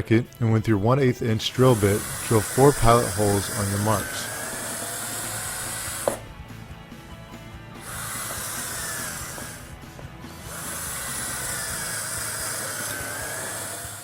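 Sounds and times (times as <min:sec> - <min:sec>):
electric drill whining: 0:01.5 - 0:14.0.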